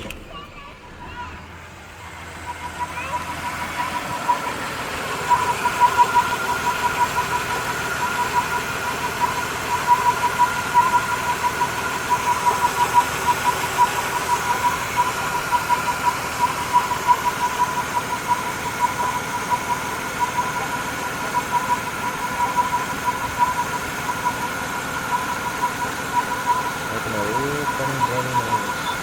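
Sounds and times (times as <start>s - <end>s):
car engine running: 0.0s - 29.0s
pulsing high engine hum: 0.0s - 29.0s.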